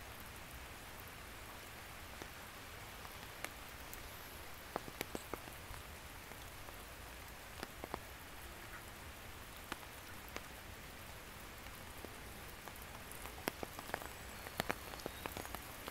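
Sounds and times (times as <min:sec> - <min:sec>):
nearby raindrops ticking: 0:00.0 - 0:15.9
rain hissing on leaves: 0:00.0 - 0:15.9.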